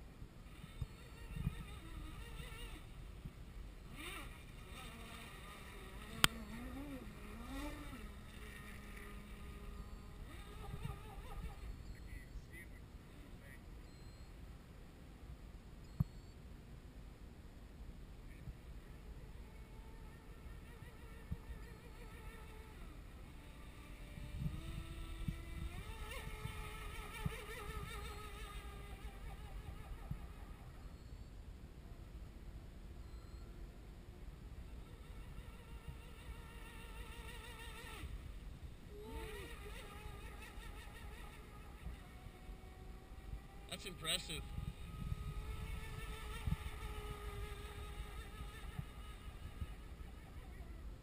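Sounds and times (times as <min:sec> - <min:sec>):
electric motor whine: 0:00.0 - 0:13.4, 0:18.4 - 0:31.4, 0:32.8 - 0:51.0.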